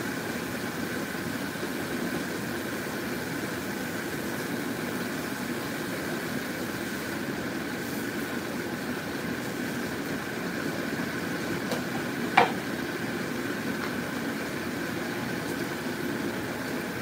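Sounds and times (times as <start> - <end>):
soup bubbling at a rolling boil: 0.0 - 17.0.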